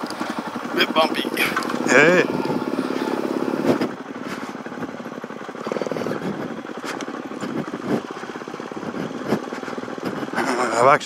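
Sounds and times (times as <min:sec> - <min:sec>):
dirt bike engine at low revs: 0:00.0 - 0:11.0.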